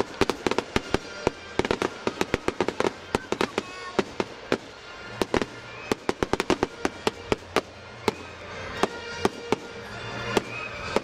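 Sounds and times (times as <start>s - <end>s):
fireworks exploding with sharp bangs: 0.0s - 11.0s.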